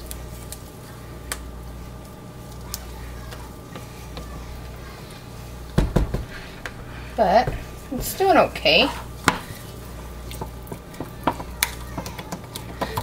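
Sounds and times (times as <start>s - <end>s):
spatula squishing and scraping: 0.0s - 13.0s
steady low hum: 0.0s - 13.0s.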